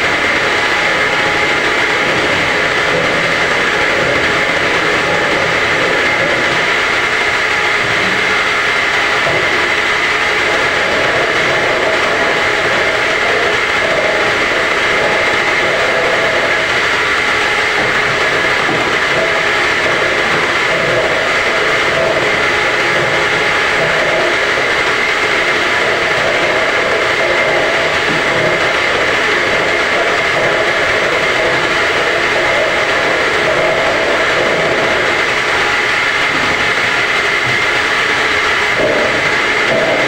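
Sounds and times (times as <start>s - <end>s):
washing machine running: 0.0s - 40.0s.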